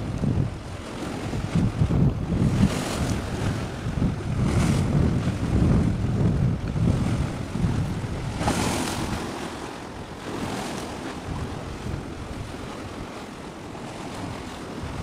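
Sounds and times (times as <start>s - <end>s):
surf: 0.0s - 15.0s
wind blowing across microphone: 0.0s - 15.0s.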